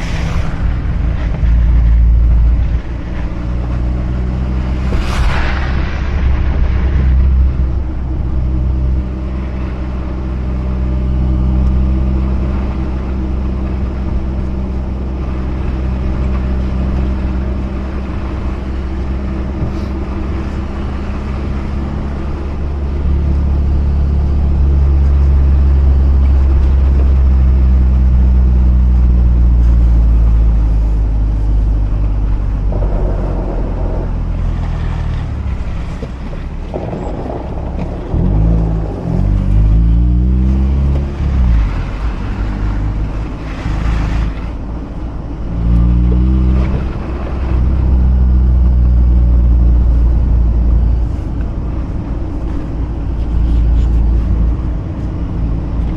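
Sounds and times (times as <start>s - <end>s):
road noise hiss: 0.0s - 55.9s
rotary car engine running: 0.0s - 55.9s.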